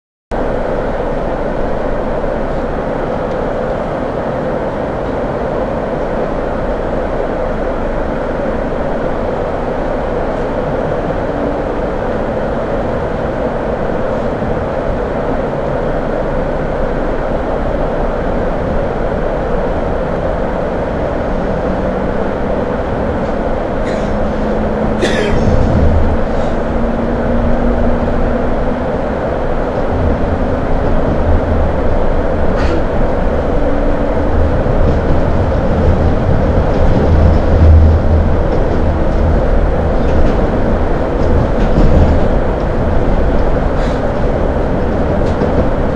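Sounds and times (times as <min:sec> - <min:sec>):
train wheels rumbling on rails: 0:00.3 - 0:45.9.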